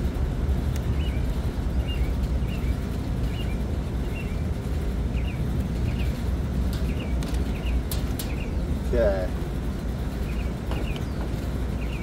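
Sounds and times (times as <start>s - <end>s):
steady low rumble: 0.0s - 12.0s
small bird chirping: 0.8s - 8.7s, 10.2s - 12.0s.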